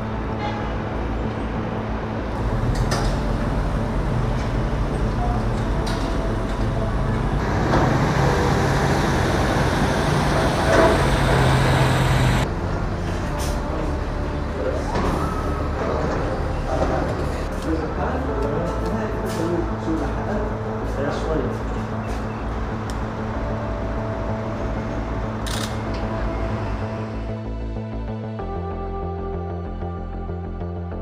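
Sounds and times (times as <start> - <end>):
road traffic rumble: 0.0 - 28.2.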